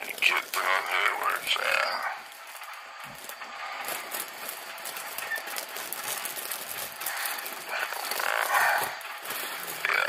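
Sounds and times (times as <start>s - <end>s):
paper rustling: 0.0s - 10.0s
steady hiss: 0.0s - 10.0s.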